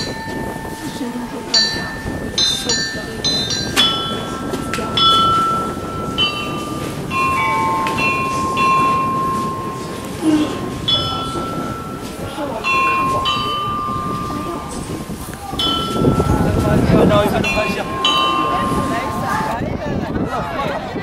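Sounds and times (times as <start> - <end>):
slow melody of long notes: 0.0 - 19.6.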